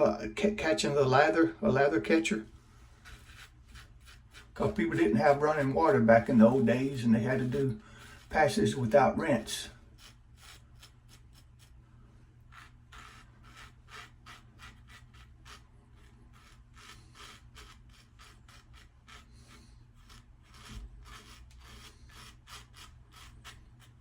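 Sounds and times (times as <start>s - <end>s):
razor scraping stubble: 3.0s - 11.8s, 12.4s - 24.0s.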